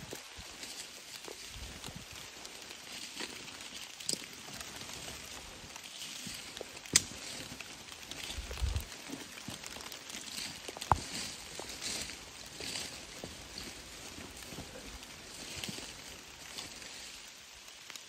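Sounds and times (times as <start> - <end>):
footsteps through rustling foliage: 0.0 - 18.0
twigs crackling and snapping: 0.0 - 18.0.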